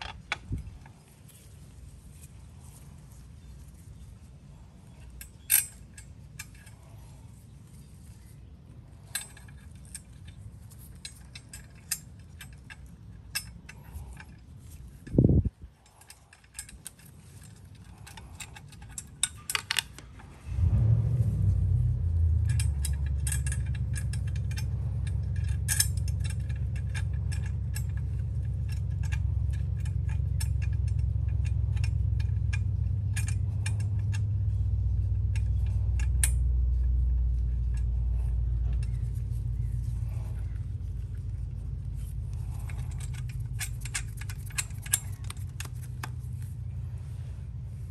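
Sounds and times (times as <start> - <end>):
steady low rumble: 0.0 - 47.9
metal tools clinking: 4.8 - 20.3, 22.2 - 47.2.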